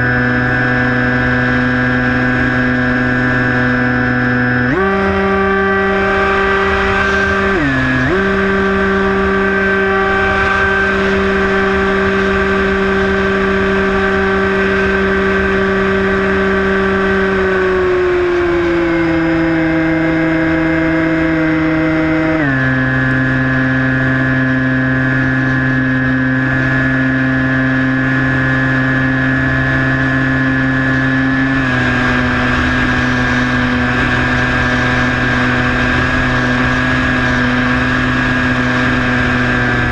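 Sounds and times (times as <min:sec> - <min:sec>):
electric motor and propeller whining: 0:00.0 - 0:39.9
wind rumble on microphone: 0:00.0 - 0:39.9.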